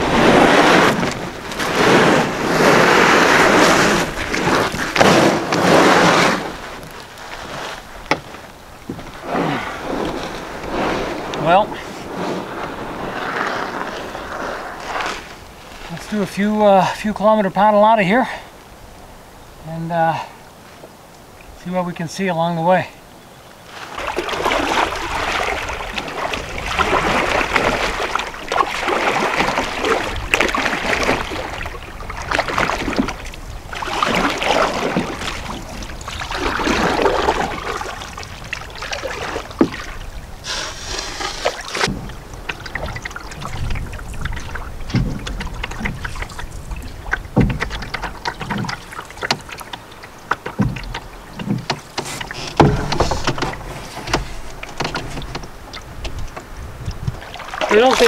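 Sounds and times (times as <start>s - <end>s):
paddle strokes splashing water: 0.0s - 17.0s, 23.5s - 58.0s.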